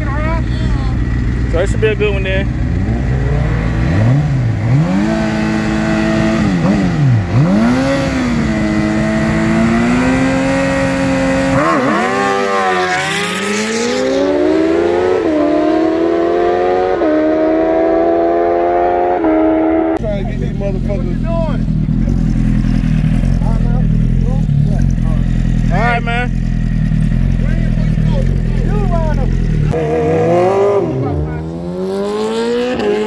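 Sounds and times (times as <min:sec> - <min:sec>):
sport-bike engines revving and accelerating: 0:00.0 - 0:33.0.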